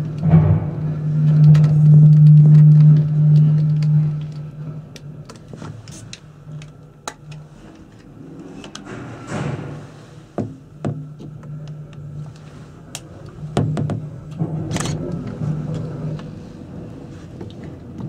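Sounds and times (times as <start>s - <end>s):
gondola cabin low hum: 0.0s - 18.0s.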